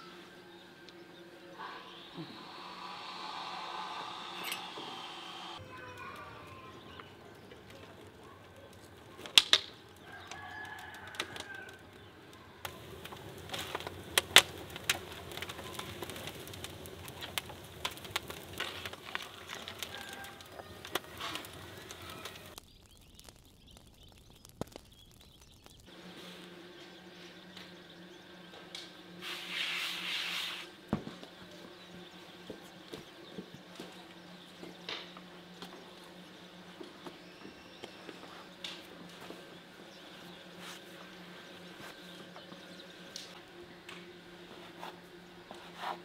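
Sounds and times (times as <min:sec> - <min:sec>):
small birds chirping: 0:00.0 - 0:29.1, 0:31.2 - 0:44.2
brushwood snapping and crackling in fire: 0:05.6 - 0:29.3, 0:30.7 - 0:44.2.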